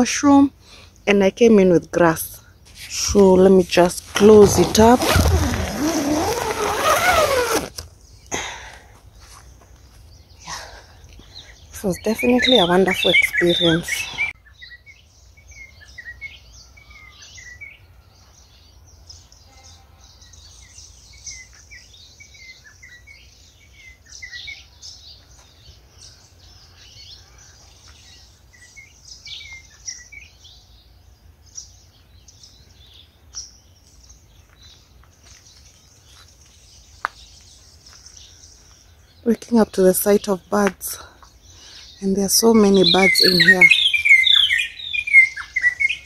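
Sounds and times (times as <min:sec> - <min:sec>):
birds chirping and calling: 0:02.0 - 0:46.0.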